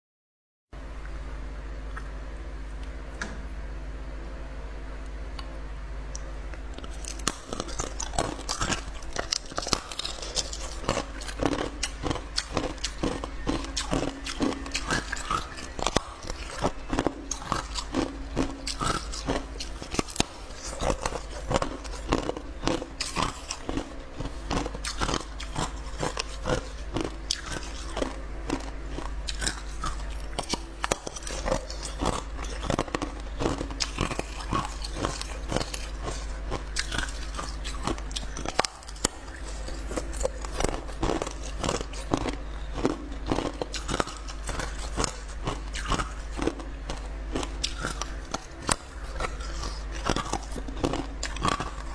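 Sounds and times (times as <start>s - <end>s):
ice crunching being chewed: 6.7s - 51.9s.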